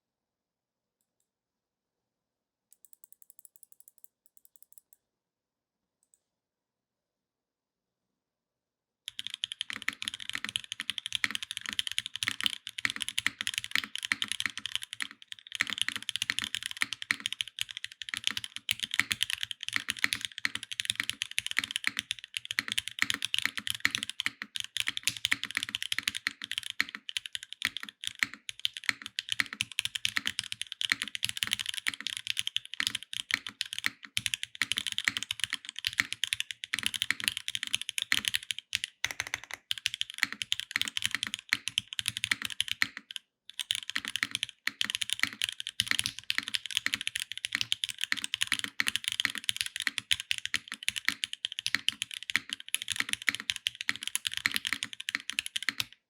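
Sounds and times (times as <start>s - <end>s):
fast mechanical keyboard typing: 9.1s - 56.0s.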